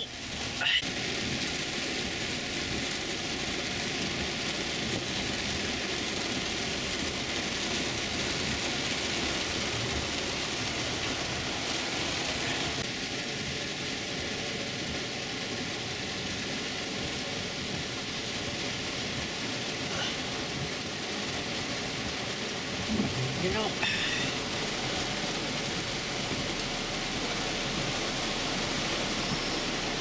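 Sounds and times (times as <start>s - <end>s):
heavy rain on car roof: 0.0s - 30.0s.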